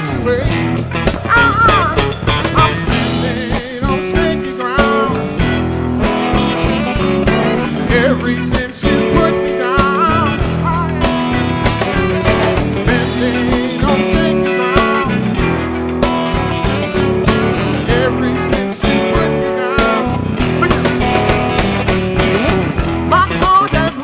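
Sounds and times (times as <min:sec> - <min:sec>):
bass and drums: 0:00.0 - 0:24.0
lead guitar with bent notes: 0:00.0 - 0:24.0.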